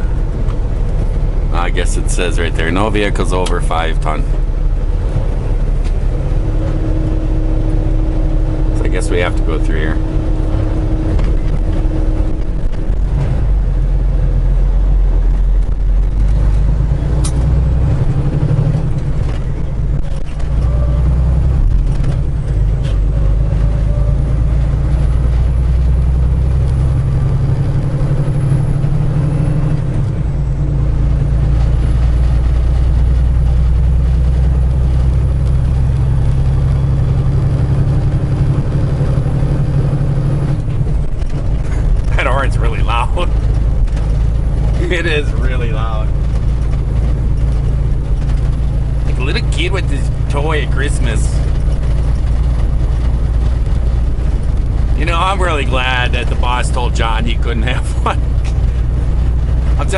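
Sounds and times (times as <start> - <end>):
road noise: 0.0 - 59.9
truck diesel engine drone: 0.0 - 59.9.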